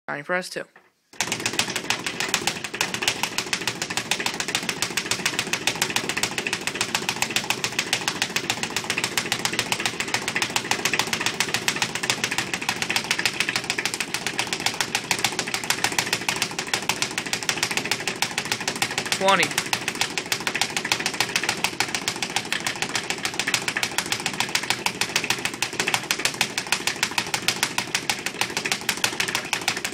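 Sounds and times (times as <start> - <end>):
speed bag rattling: 1.1 - 29.9.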